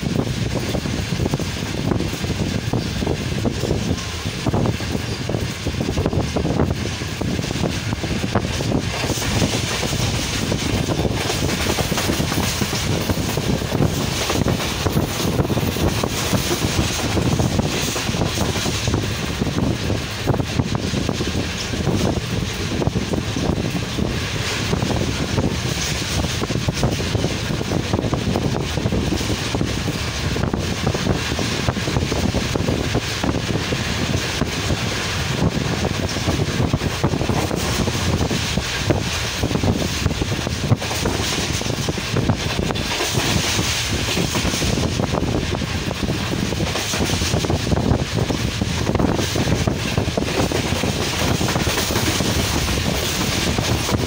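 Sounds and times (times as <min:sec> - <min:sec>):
train carriage running on track: 0:00.0 - 0:54.0
wind rushing on microphone: 0:00.0 - 0:54.0.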